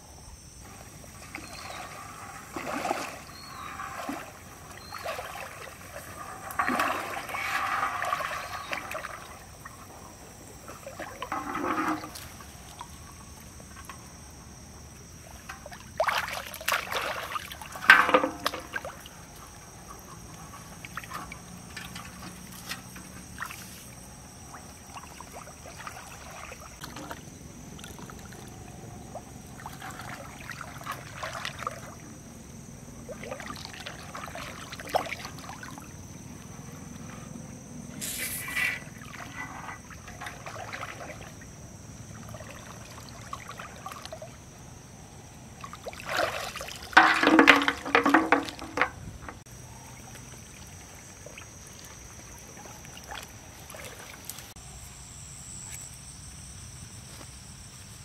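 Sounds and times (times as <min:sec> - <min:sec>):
water sloshing and splashing: 0:00.4 - 0:54.6.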